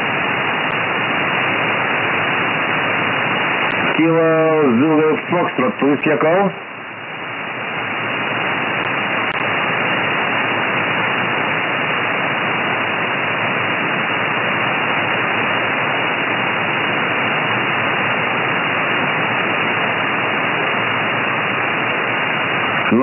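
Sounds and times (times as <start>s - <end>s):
shortwave receiver hiss: 0.0s - 23.0s.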